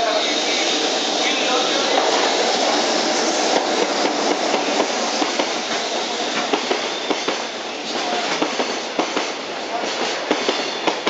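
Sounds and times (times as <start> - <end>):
train wheels rushing: 0.0 - 11.0.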